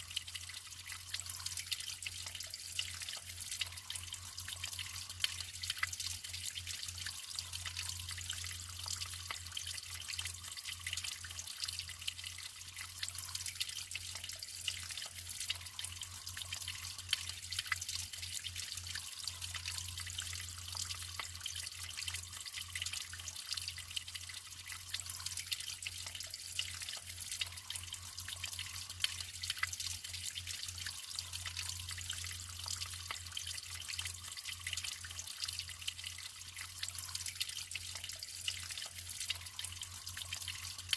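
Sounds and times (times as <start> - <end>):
water dripping: 0.0 - 40.9
water flowing and trickling: 0.0 - 40.9.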